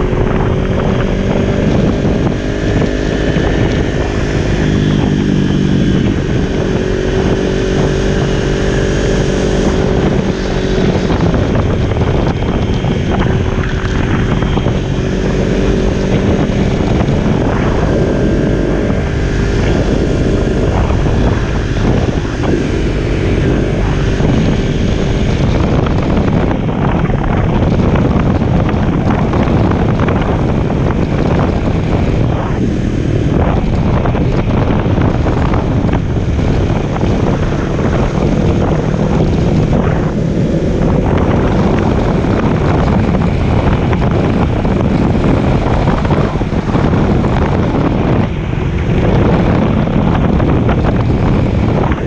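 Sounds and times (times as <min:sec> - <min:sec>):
motorcycle engine cruising: 0:00.0 - 0:52.0
wind noise on microphone: 0:00.0 - 0:52.0.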